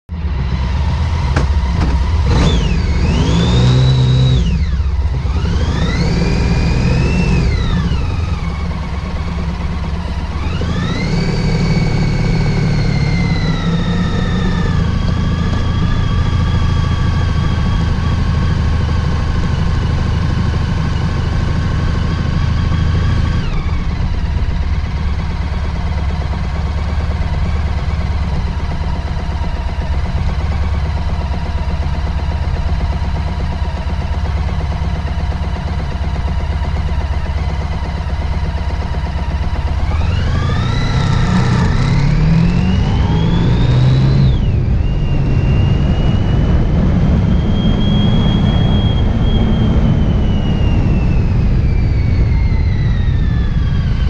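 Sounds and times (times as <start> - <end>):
motorcycle engine accelerating: 0.1 - 54.0.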